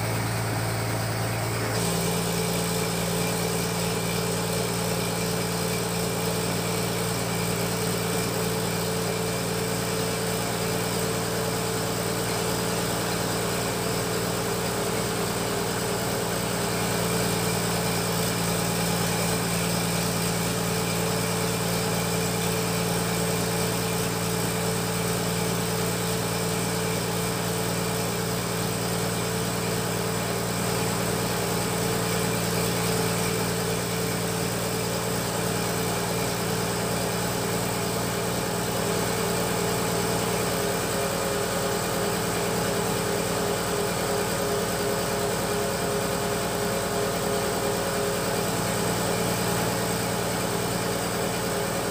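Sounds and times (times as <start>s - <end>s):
machine humming steadily: 0.0s - 51.9s.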